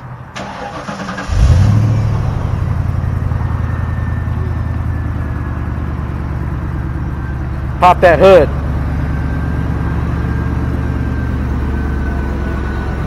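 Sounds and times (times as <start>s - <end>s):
car engine idling: 0.2s - 13.0s.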